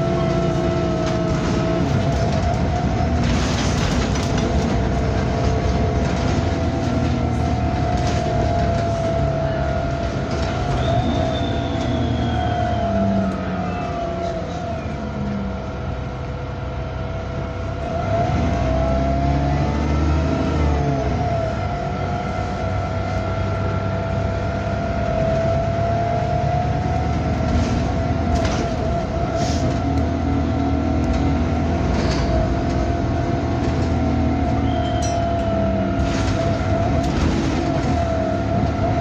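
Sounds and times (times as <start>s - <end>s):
bus engine rumbling: 0.0s - 39.0s.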